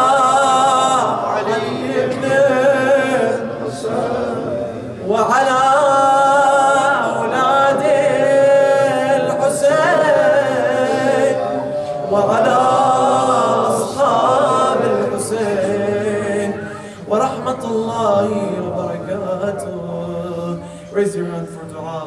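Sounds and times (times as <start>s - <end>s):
man chanting: 0.0s - 22.0s.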